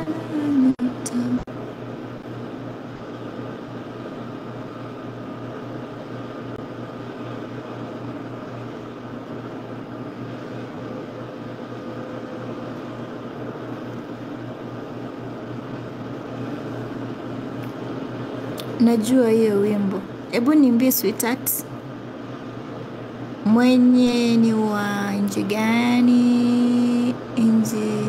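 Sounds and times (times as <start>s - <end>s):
continuous rushing hiss: 0.0s - 28.0s
steady background hum: 0.0s - 28.0s.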